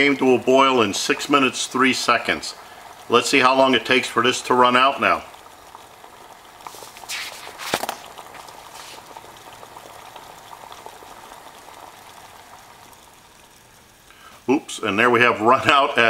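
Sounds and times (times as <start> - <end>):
water boiling in a pot: 0.0 - 16.0.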